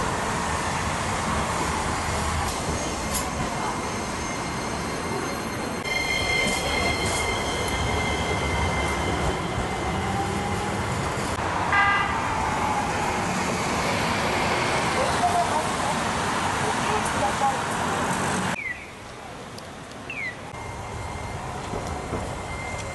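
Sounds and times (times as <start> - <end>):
streetcar motor whine: 0.0 - 18.6, 20.5 - 22.9
wheel and street noise: 0.0 - 22.9.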